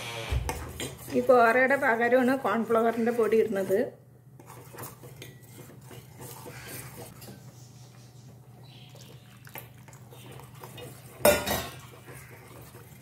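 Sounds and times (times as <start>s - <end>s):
spoon stirring soup in a pot: 0.5s - 13.0s.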